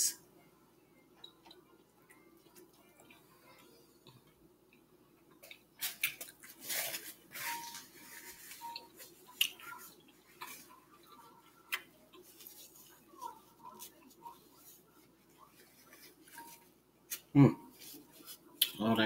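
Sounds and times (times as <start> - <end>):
person chewing food: 1.2 - 18.8.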